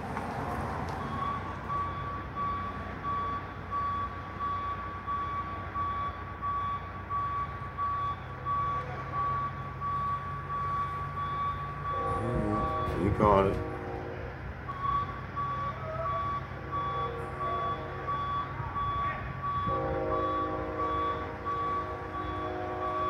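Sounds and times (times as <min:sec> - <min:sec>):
backup alarm beeping: 0:01.0 - 0:14.0, 0:14.6 - 0:23.0.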